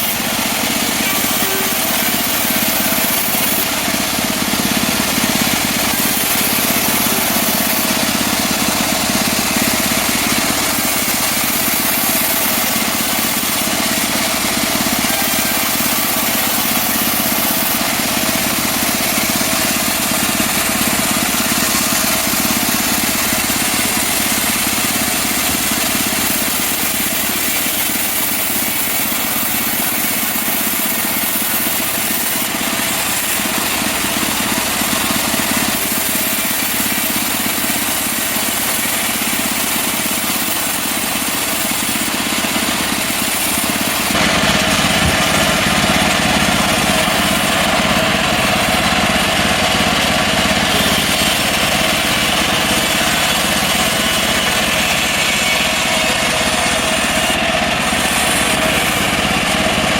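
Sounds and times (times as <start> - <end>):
sawmill saw cutting wood: 0.0 - 59.9.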